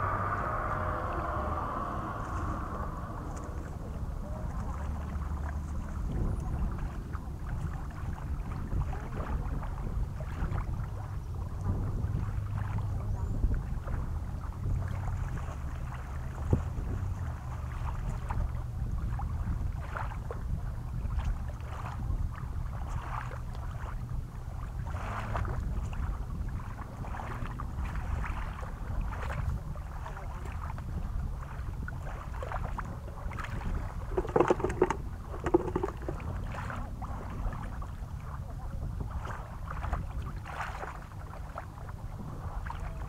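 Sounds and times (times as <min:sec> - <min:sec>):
small waves lapping at shore: 0:00.0 - 0:43.0
wind rumbling on microphone: 0:00.0 - 0:43.0.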